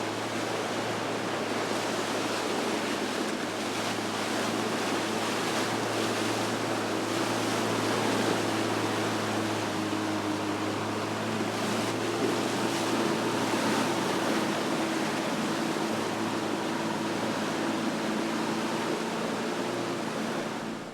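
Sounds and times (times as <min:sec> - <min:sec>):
boat engine droning: 0:00.0 - 0:20.9
water rushing: 0:00.0 - 0:20.9.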